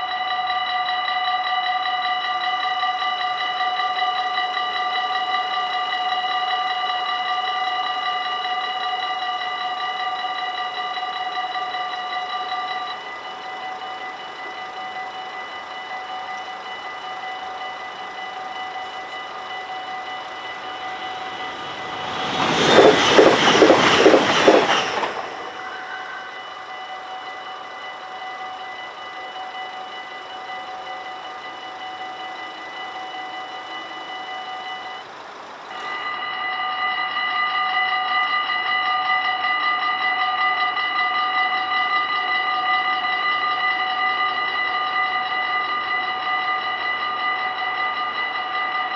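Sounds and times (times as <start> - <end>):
level-crossing warning bells: 0.0 - 48.9
train passing at speed: 0.0 - 48.9.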